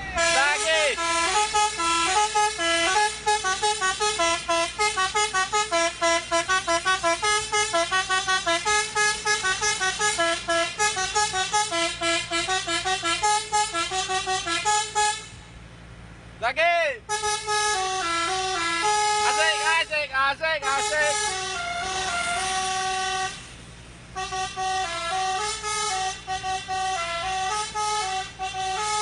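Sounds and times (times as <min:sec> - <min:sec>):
bus melody horn: 0:00.0 - 0:16.1, 0:17.0 - 0:29.0.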